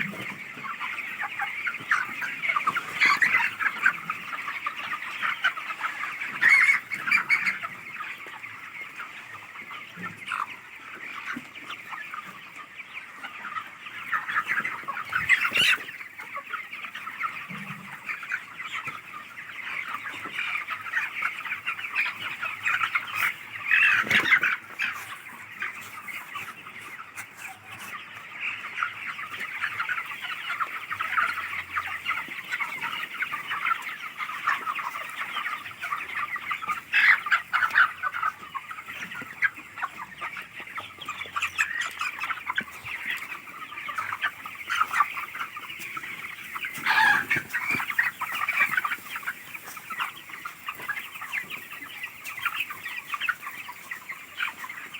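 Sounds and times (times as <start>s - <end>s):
flock of chickens clucking: 0.0s - 54.9s.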